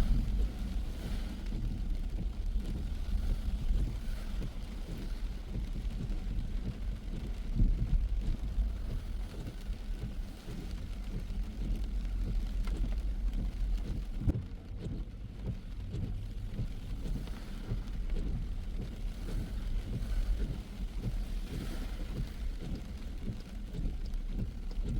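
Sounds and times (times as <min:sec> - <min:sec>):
rain and tyre spray hiss: 0:00.0 - 0:24.9
road and engine rumble: 0:00.0 - 0:24.9.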